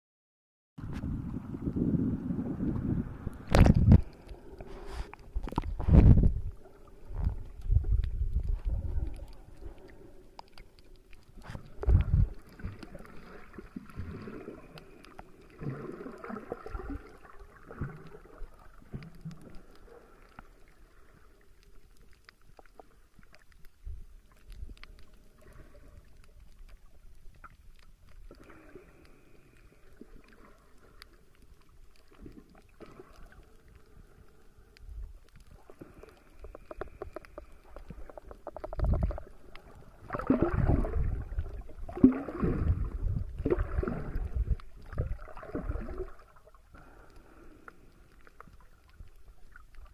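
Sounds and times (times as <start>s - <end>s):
muffled underwater water sloshing: 0.8s - 49.9s.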